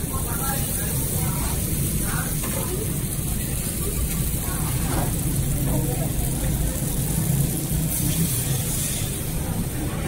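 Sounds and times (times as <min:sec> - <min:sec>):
stove burning with rumble and hiss: 0:00.0 - 0:10.0.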